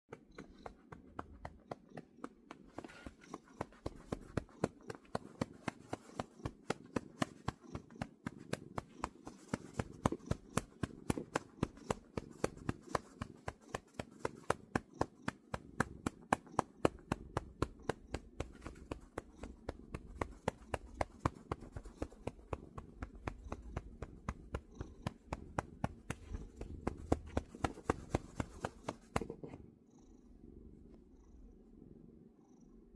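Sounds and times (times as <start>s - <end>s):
cat purring: 0.1s - 32.9s.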